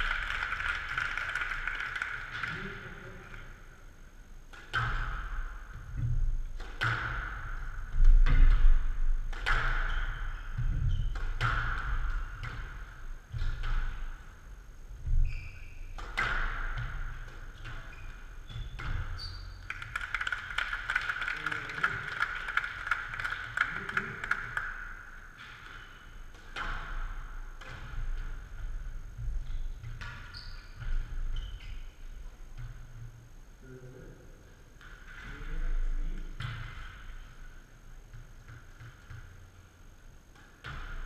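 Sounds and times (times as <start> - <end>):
squash ball hitting racket and walls: 4.3 - 33.2, 34.7 - 41.0.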